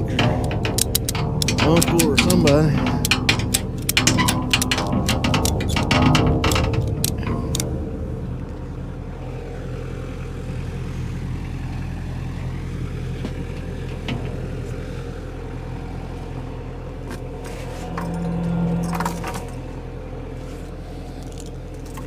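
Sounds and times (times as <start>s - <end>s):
engine running steadily: 0.0s - 22.0s
steady strong hum: 0.0s - 22.0s.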